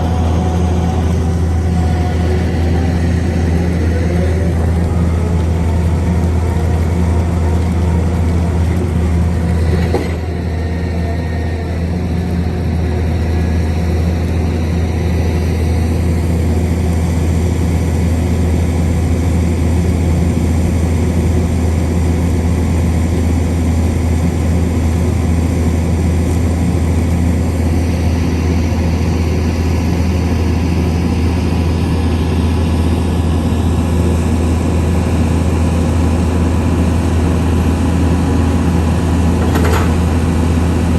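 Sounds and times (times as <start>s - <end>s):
construction machine engine drone: 0.0s - 40.9s.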